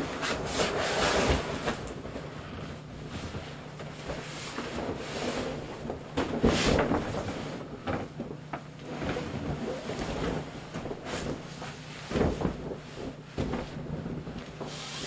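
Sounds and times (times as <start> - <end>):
plastic raincoat rustling: 0.0 - 15.0.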